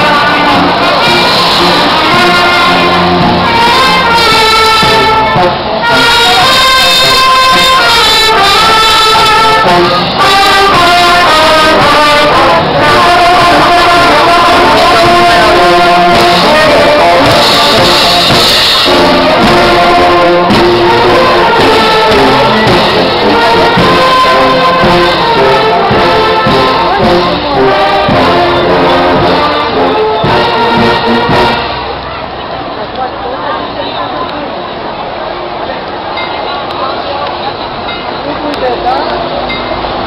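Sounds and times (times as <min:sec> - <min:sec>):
marching brass band playing: 0:00.0 - 0:32.1.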